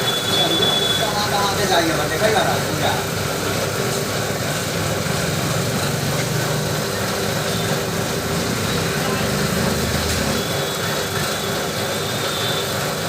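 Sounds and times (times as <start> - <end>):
lathe running: 0.0 - 13.0.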